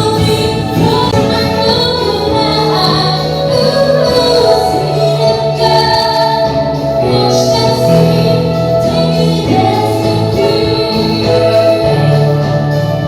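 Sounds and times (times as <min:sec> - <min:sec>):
slow song with bass line: 0:00.0 - 0:13.0.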